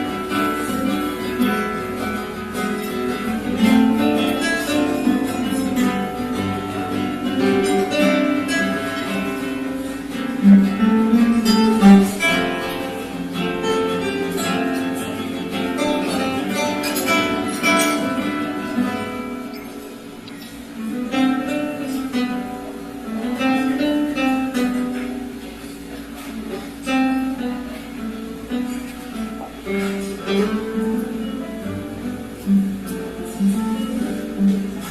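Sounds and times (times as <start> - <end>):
acoustic guitars playing: 0.0 - 34.9.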